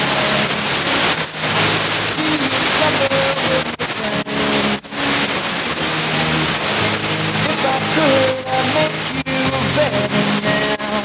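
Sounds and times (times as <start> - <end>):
faint music notes: 0.0 - 11.0
loud static hiss: 0.0 - 11.0.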